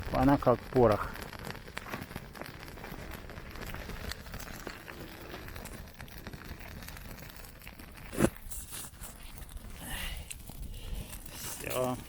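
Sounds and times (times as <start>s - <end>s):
small fire crackling: 0.0s - 12.0s.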